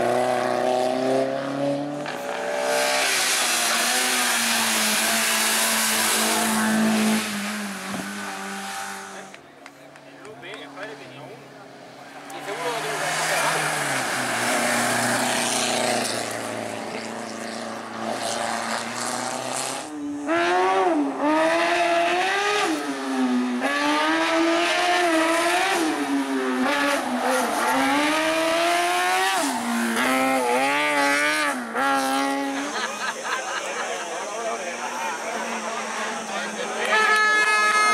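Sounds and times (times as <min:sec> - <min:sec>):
race car engine revving through gears: 0:00.0 - 0:09.4, 0:10.6 - 0:32.8.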